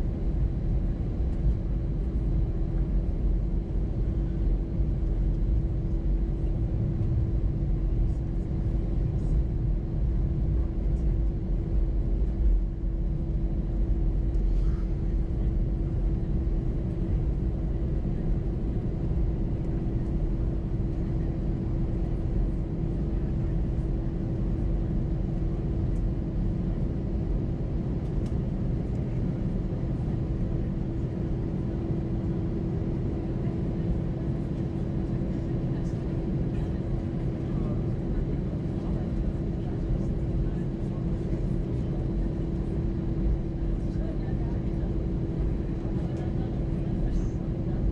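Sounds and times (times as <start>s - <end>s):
aircraft cabin rumble: 0.0s - 47.9s
constant hum: 0.0s - 47.9s.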